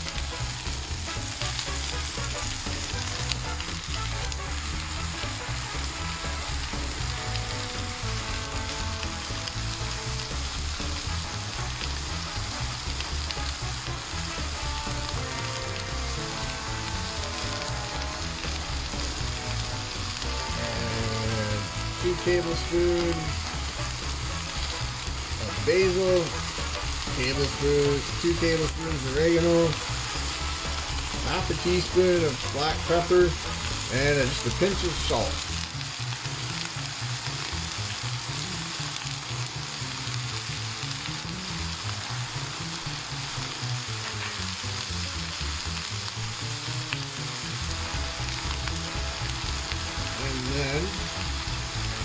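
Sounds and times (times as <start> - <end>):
vegetables sizzling in oil: 0.0 - 52.0.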